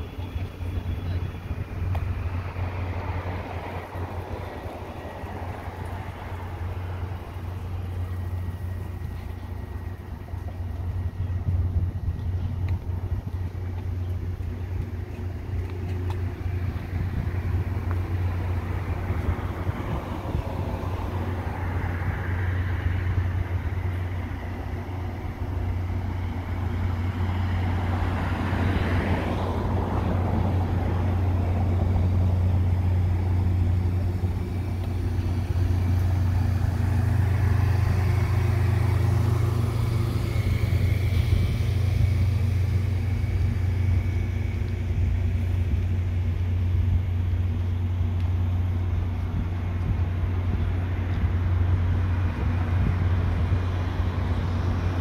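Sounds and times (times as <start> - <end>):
train idling hum: 0.0 - 55.0.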